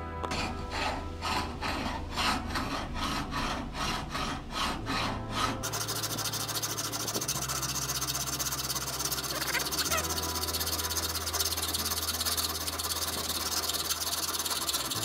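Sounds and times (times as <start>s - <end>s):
hand file rasping on metal: 0.2s - 15.0s.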